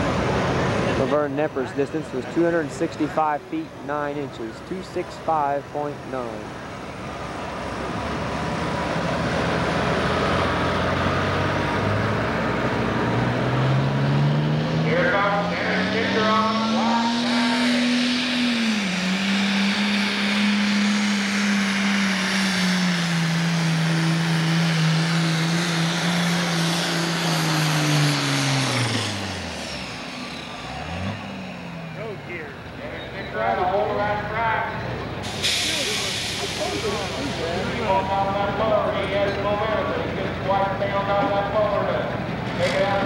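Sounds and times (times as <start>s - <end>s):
tractor diesel engine running hard: 0.0s - 43.0s.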